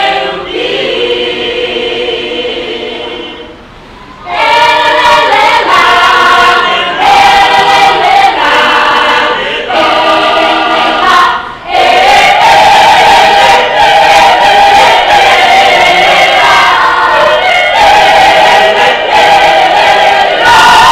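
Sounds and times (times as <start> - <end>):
mixed choir singing in harmony: 0.0 - 20.9.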